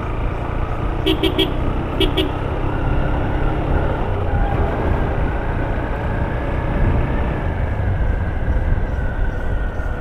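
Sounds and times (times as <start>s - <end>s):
motorcycle engine and wind rumble: 0.0s - 10.0s.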